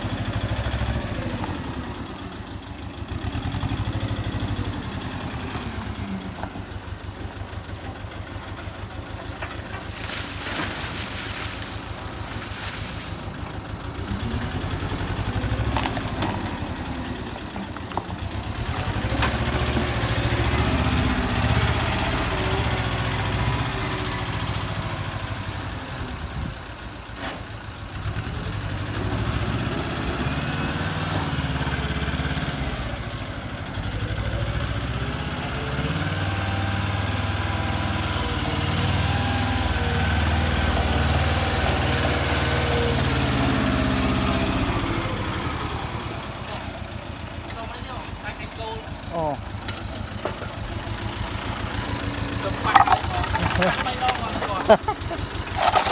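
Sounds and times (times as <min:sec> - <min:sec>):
wheel loader engine revving: 0:00.0 - 0:26.3, 0:27.9 - 0:47.5, 0:48.9 - 0:55.9.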